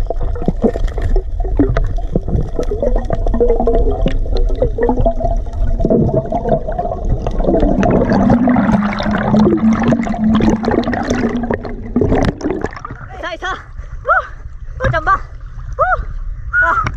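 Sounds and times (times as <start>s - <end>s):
steady low hum: 0.0s - 16.6s
underwater water rushing and bubbling: 0.0s - 16.9s.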